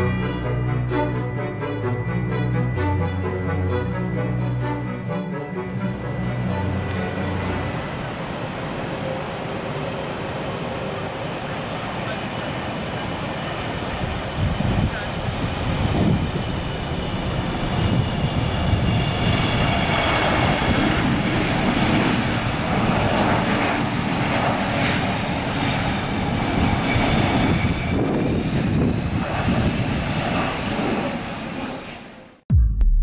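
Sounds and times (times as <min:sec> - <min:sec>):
jet engine rumble: 0:00.0 - 0:32.5
high fan whine: 0:03.7 - 0:30.9.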